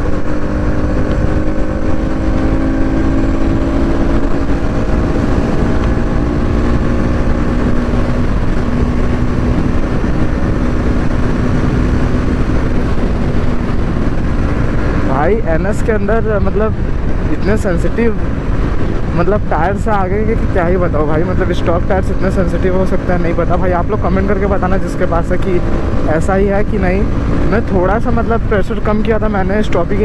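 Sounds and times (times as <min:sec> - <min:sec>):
wind rush on microphone: 0:00.0 - 0:30.0.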